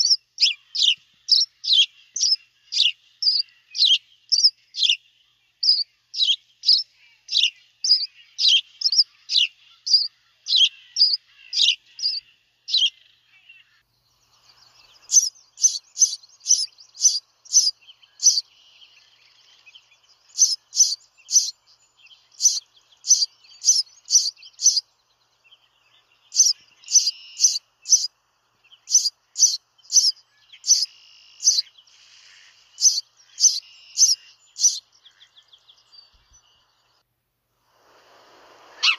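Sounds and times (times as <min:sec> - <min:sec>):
sparrows chirping: 0:00.0 - 0:37.0.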